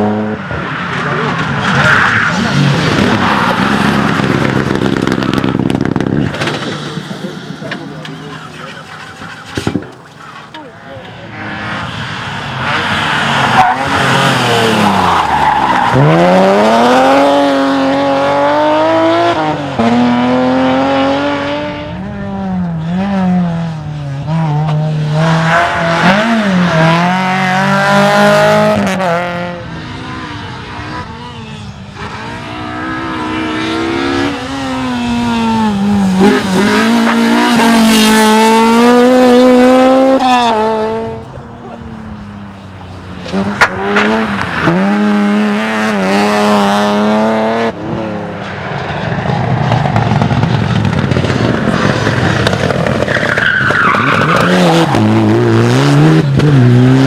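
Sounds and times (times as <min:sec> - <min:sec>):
rally cars at full throttle: 0:00.0 - 0:57.0.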